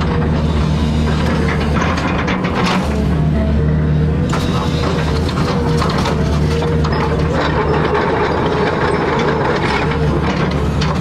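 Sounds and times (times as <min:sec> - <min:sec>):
excavator engine drone: 0:00.0 - 0:11.0.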